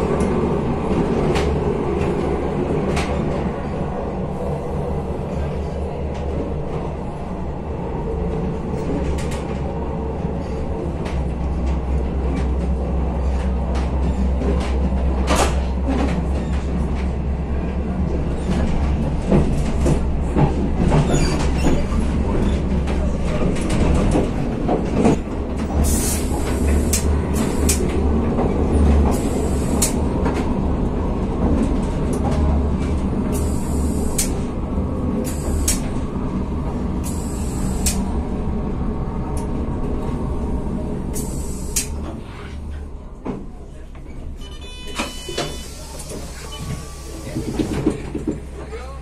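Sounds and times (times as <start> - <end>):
train rumbling on track: 0.0 - 49.0.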